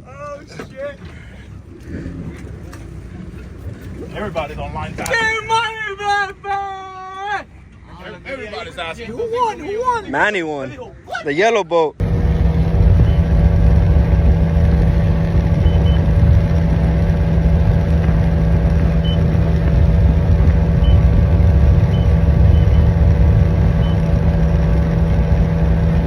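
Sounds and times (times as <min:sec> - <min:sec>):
outboard engines droning: 0:00.0 - 0:11.2, 0:12.0 - 0:26.0.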